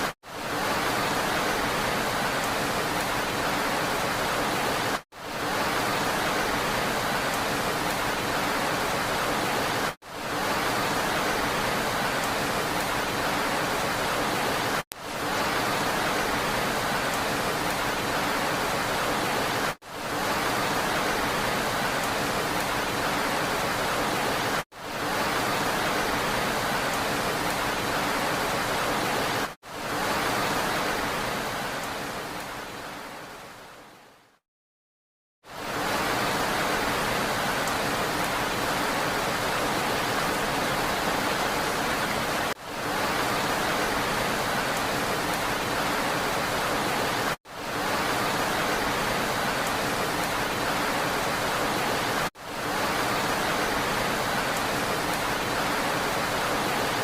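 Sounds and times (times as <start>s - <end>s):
rain hissing: 0.0s - 33.6s, 35.5s - 57.0s.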